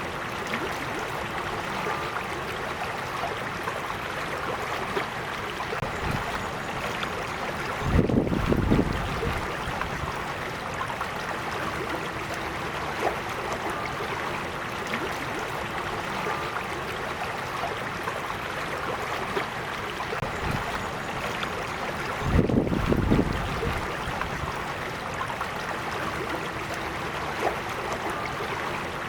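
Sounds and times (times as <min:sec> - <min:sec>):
creek water babbling over stones: 0:00.0 - 0:29.0.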